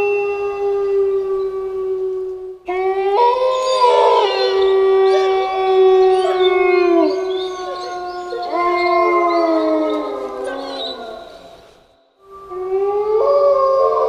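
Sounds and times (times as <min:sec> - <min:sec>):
wolves howling: 0:00.0 - 0:14.0.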